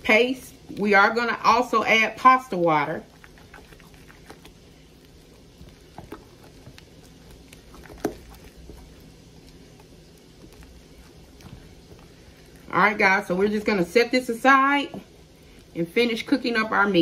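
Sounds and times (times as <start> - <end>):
utensil stirring paste in glass bowl: 0.8 - 16.8.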